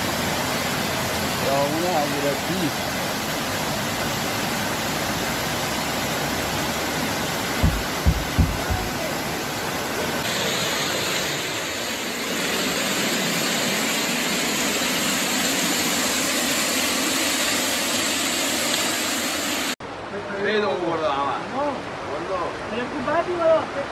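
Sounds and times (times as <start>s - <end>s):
floodwater rushing: 0.0s - 19.8s.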